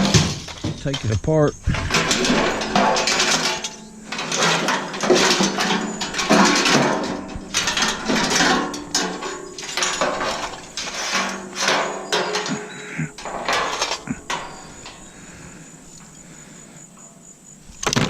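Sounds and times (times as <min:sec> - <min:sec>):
small metal parts clattering: 0:00.0 - 0:18.0.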